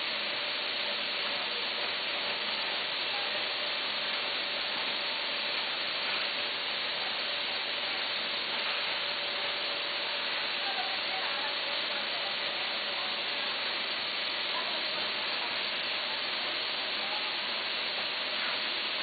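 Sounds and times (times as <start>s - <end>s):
packaging machine hissing: 0.0s - 19.0s.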